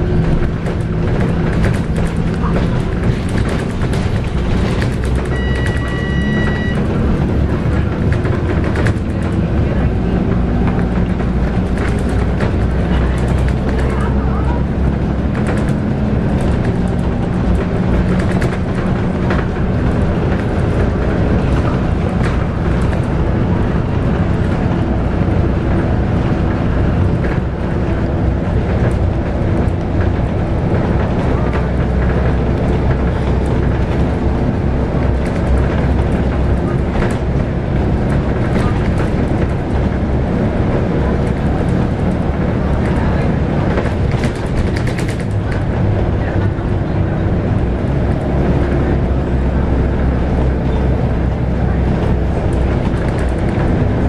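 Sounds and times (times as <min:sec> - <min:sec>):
bus diesel engine: 0:00.0 - 0:54.0
road rumble: 0:00.0 - 0:54.0.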